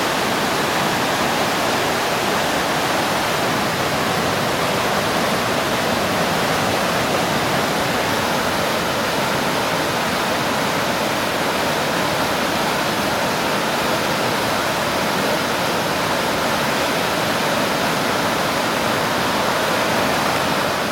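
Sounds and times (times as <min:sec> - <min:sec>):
mountain stream rushing: 0:00.0 - 0:20.9.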